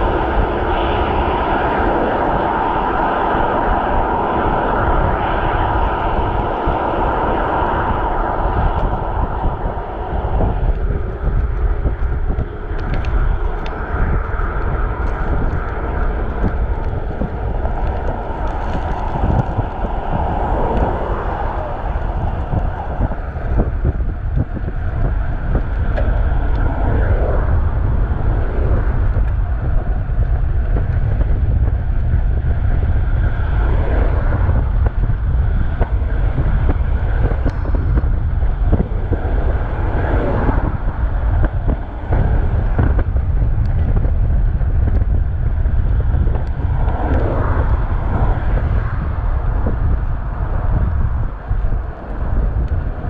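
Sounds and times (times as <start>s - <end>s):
traffic passing: 0.0s - 43.0s
wind rumbling over microphone: 0.0s - 53.0s.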